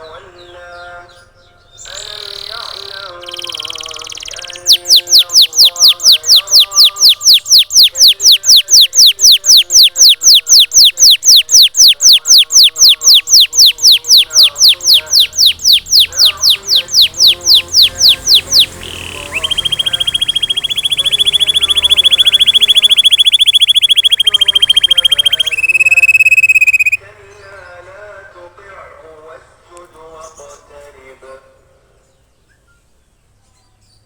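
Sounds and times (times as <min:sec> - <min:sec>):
canary singing: 0:00.0 - 0:28.1.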